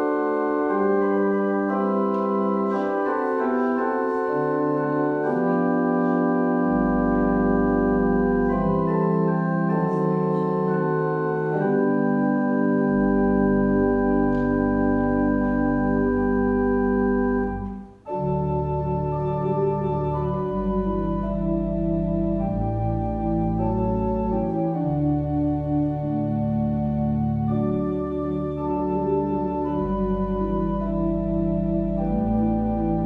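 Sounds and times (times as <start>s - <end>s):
organ playing sustained chords: 0.0s - 33.0s
deep bass pedal notes: 4.8s - 33.0s.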